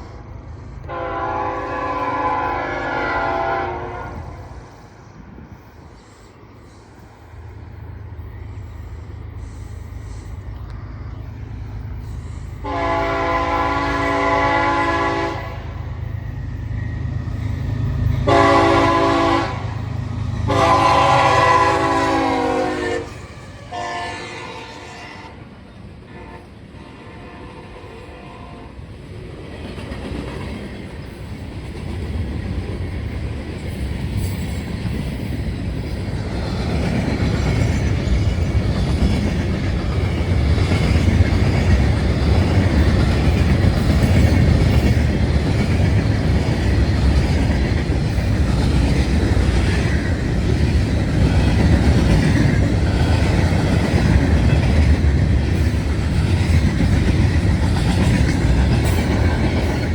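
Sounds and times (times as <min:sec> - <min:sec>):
train running past: 0:00.0 - 0:59.9.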